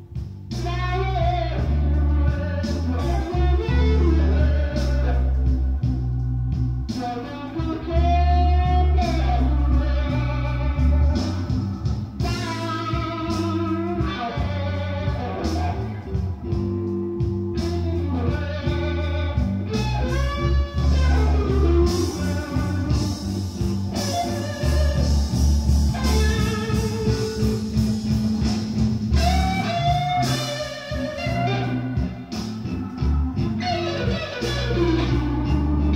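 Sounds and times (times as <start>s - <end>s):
electric blues guitar: 0.0s - 35.9s
heavy bass line: 0.0s - 35.9s.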